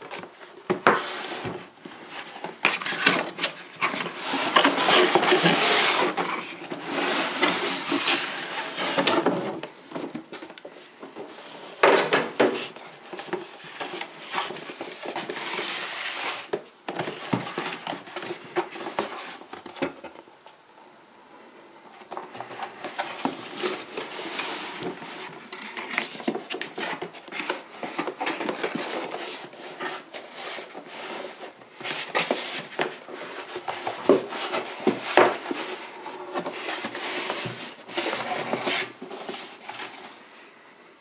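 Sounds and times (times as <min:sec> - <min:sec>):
cardboard scraping and rustling: 0:00.0 - 0:10.6, 0:11.2 - 0:20.2, 0:22.0 - 0:40.2.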